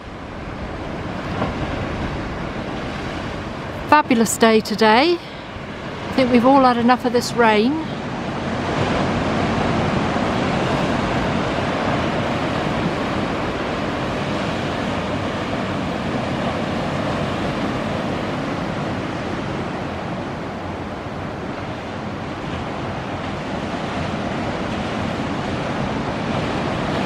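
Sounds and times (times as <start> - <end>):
waves breaking over rocks: 0.0 - 27.0.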